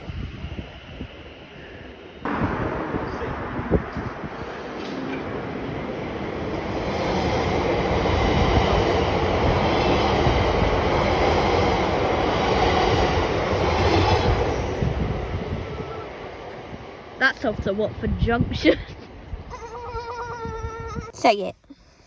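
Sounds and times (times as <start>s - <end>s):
train rumbling past: 0.0s - 20.1s.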